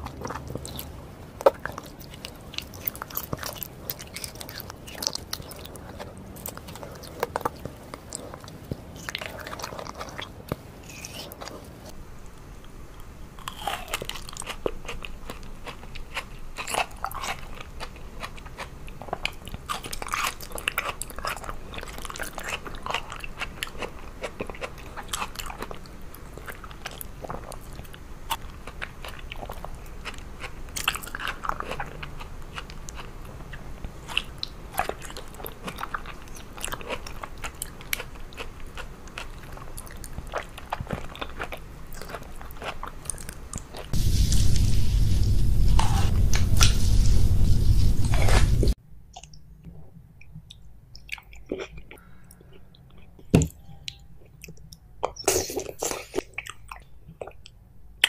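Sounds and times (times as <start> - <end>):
person chewing aloe gel crunchily: 0.0 - 12.0, 12.6 - 44.0, 49.1 - 58.0.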